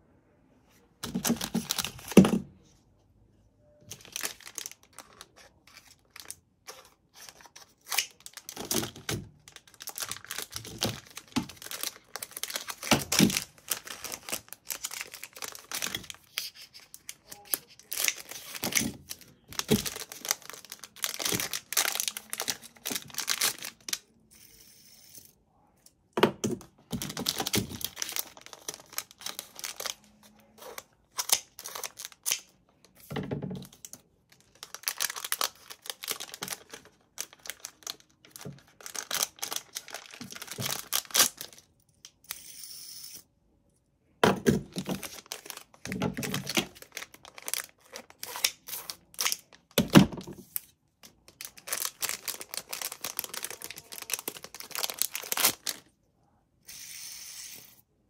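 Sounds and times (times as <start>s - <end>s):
plastic bags crinkling: 1.0s - 2.4s, 3.9s - 24.0s, 26.8s - 32.6s, 33.6s - 41.7s, 44.4s - 55.9s.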